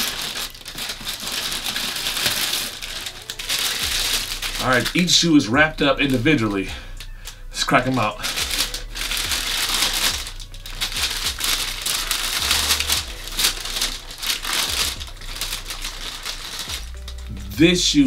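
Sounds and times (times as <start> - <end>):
paper wrapping crinkling: 0.0 - 18.0.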